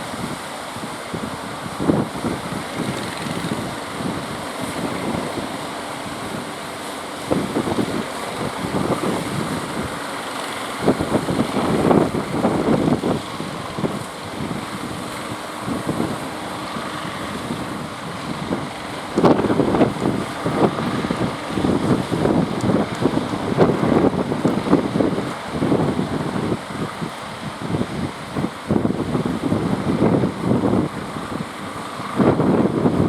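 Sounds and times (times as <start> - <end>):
strong wind buffeting microphone: 0.0 - 33.0.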